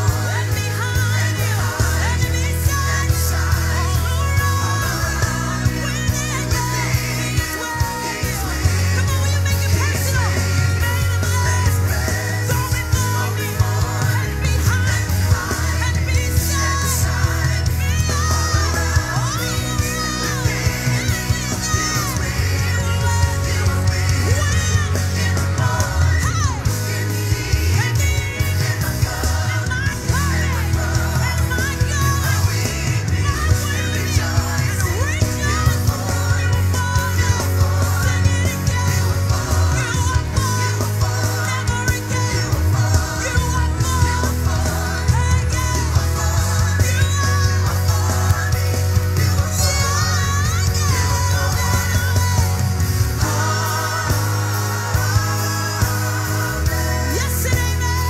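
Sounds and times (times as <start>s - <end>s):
heavy bass line: 0.0s - 58.0s
person singing worship music: 0.0s - 58.0s.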